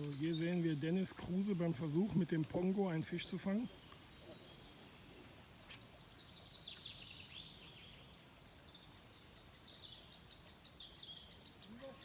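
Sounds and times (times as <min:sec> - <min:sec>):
faint birdsong chirps and trills: 0:00.0 - 0:12.0.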